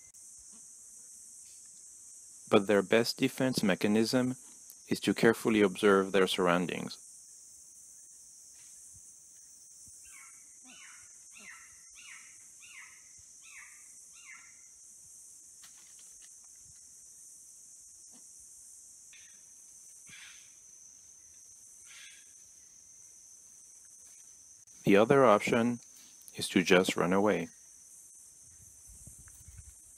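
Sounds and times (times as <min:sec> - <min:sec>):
high insect chorus: 0:00.0 - 0:29.9.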